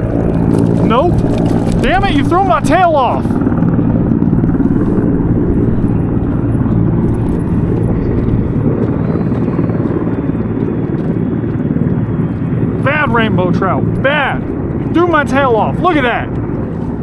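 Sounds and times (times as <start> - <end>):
motor humming steadily: 0.0 - 17.0.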